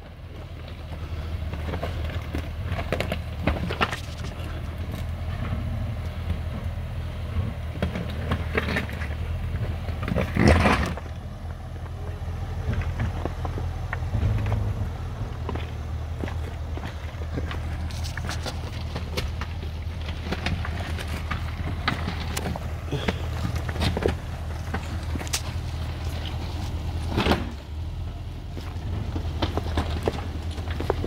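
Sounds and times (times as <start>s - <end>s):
car engine hum: 0.0s - 31.0s
stones crunching under tyres: 0.2s - 31.0s.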